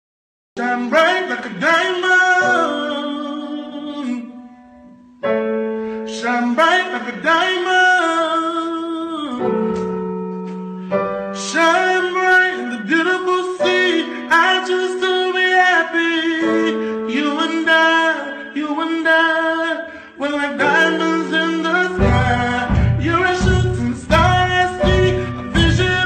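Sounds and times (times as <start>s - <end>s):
keyboard accompaniment: 0.6s - 26.0s.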